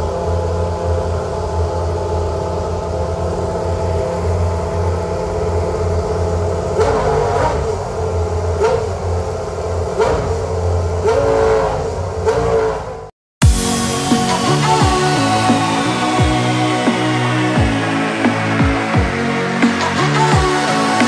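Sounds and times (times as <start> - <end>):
engine throttle blips: 0.0 - 21.0
racing car engine idling: 0.0 - 21.0.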